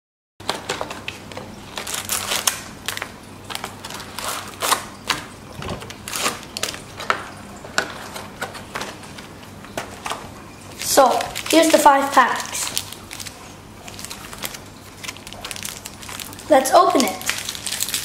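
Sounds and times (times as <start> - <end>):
foil packets crinkling: 0.4 - 18.0.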